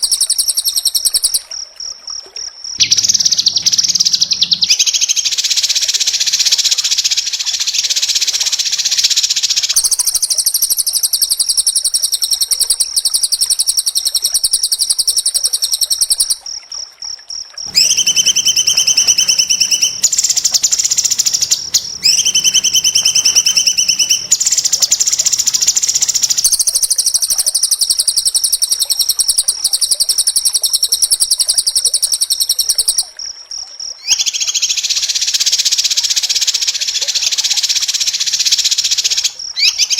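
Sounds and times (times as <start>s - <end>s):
songbird chattering and trilling: 2.8s - 16.4s, 17.6s - 33.1s, 34.0s - 39.9s.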